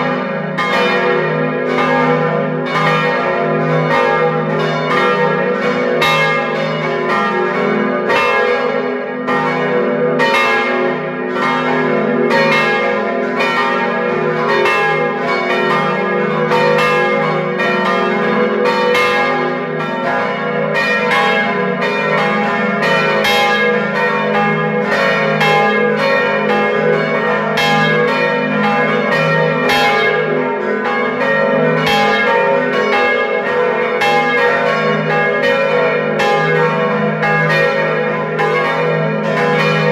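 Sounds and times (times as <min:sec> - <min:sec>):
church bells pealing: 0:00.0 - 0:39.9
deep hum of bells: 0:00.0 - 0:39.9.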